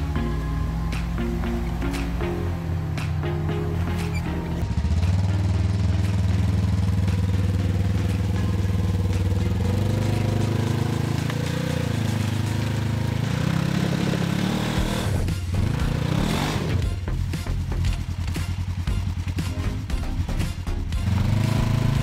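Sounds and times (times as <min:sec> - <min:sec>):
utility vehicle engine under load: 0:00.0 - 0:22.0.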